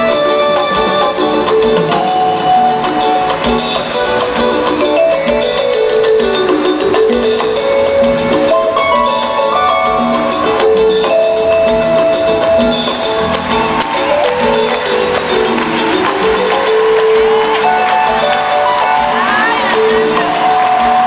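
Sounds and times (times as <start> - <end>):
band playing held melody: 0.0 - 21.0.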